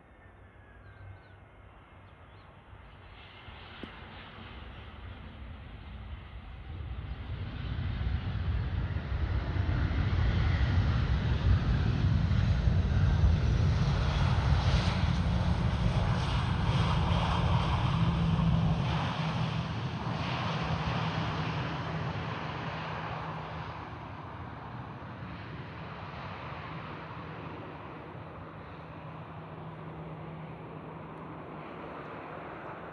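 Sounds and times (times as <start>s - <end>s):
jet airliner engines passing: 0.0s - 32.9s.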